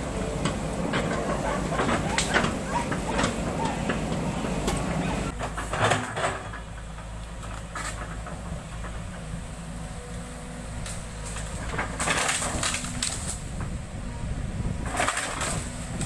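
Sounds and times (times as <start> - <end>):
excavator diesel engine running: 0.0 - 16.0
steel tracks clanking: 0.0 - 16.0.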